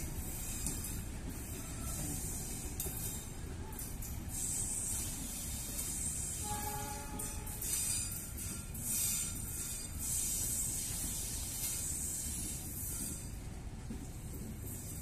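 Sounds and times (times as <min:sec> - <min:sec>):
train clattering: 0:00.0 - 0:15.0
train wheels rumbling on rails: 0:00.0 - 0:15.0.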